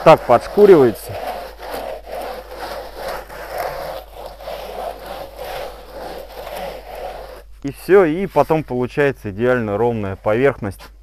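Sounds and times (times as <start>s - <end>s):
rasp float scraping insulation: 0.0s - 11.0s.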